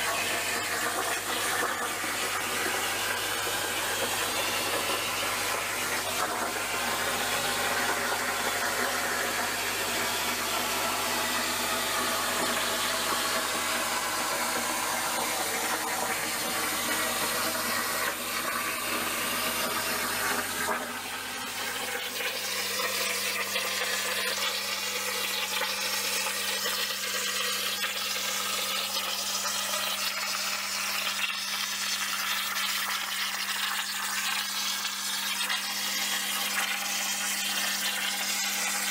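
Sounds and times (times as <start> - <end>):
plasma cutter arc hissing: 0.0 - 38.9.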